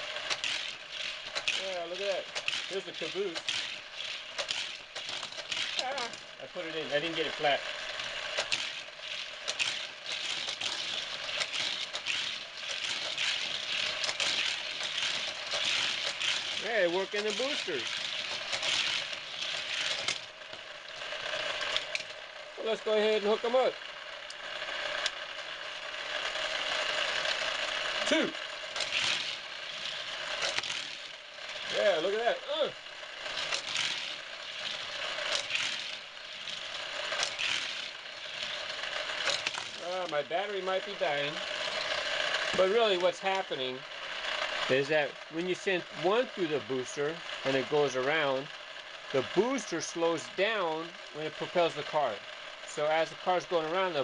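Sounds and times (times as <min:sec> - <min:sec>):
toy cars rattling on plastic track: 0:00.0 - 0:54.0
toy track booster whirring: 0:00.0 - 0:54.0.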